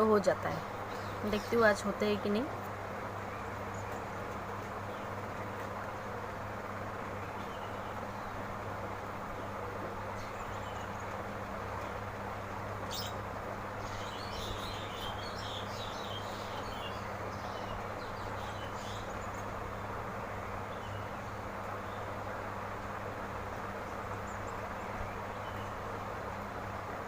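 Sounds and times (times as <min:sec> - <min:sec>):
birds chirping: 0:00.0 - 0:22.7, 0:23.3 - 0:27.0
steady hum and hiss: 0:00.0 - 0:27.0.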